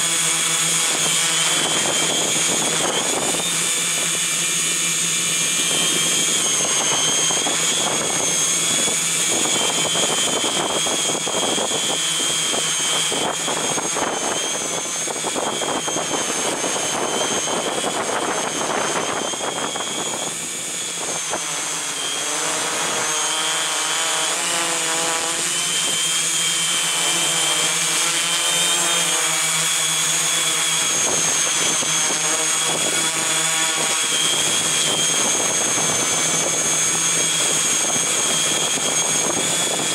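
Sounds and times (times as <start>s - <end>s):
drone propellers whining: 0.0s - 39.9s
wind noise on microphone: 0.0s - 39.9s.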